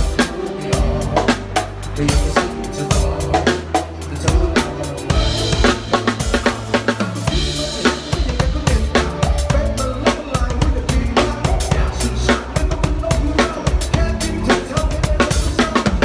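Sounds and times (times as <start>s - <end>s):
bass line: 0.0s - 16.0s
drum kit steady beat: 0.0s - 16.0s
pop backing track: 0.0s - 16.0s.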